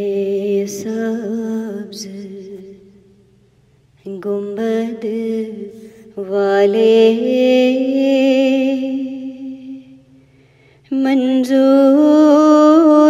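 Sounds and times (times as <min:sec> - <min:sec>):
woman singing: 0:00.0 - 0:03.2, 0:04.0 - 0:10.1, 0:10.8 - 0:13.0.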